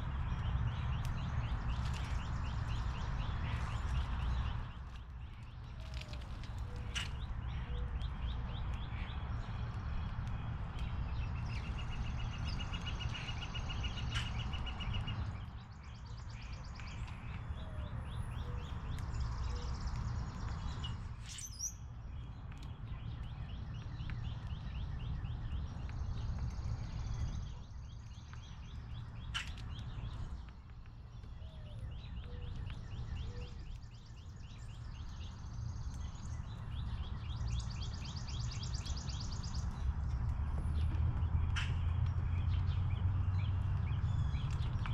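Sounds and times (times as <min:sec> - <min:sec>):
songbirds trilling and chirping: 0:00.0 - 0:44.9.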